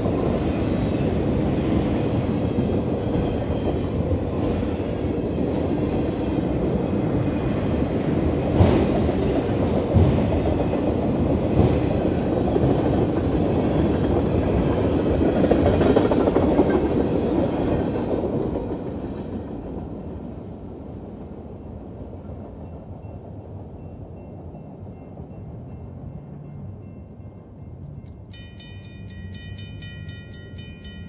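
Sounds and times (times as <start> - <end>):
steel wheels rumbling on rail: 0.0 - 31.0.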